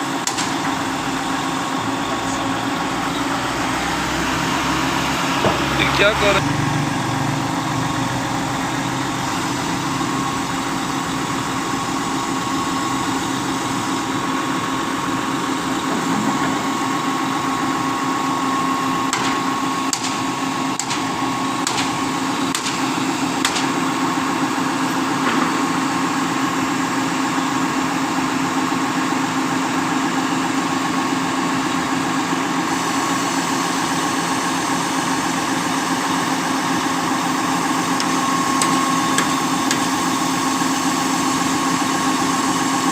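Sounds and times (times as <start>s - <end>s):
diesel engine running: 0.0s - 42.9s
high hydraulic whine: 0.0s - 42.9s.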